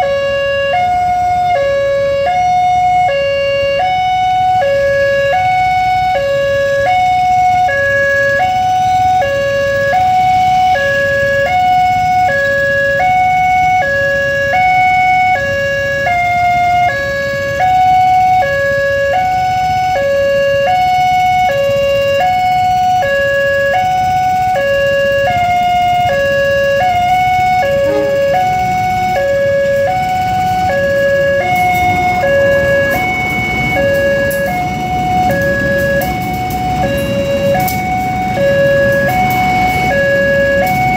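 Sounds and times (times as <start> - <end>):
level-crossing two-tone alarm: 0.0 - 40.9
train rumble: 0.0 - 40.9.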